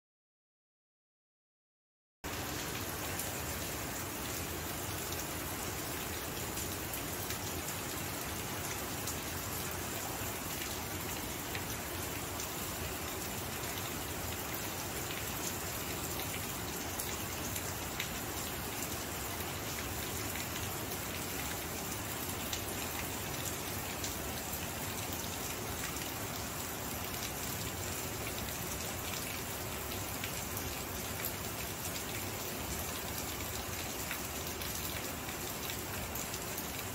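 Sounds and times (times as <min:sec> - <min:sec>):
steady rain falling: 0:02.3 - 0:36.9.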